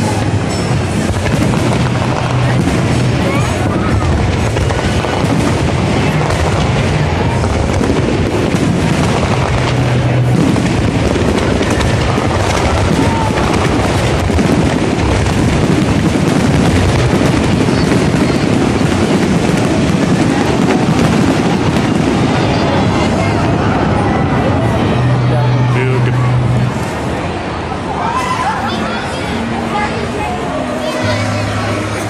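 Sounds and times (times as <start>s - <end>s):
fireworks booms and crackling: 0.0s - 27.8s.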